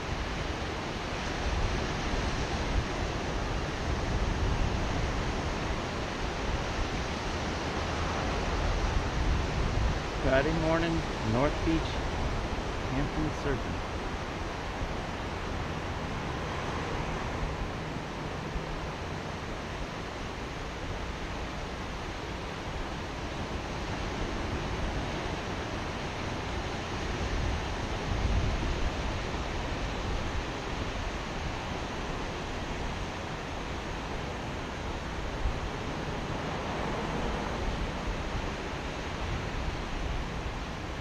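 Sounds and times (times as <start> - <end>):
surf breaking on a beach: 0.0 - 41.0
wind on the microphone: 0.0 - 41.0.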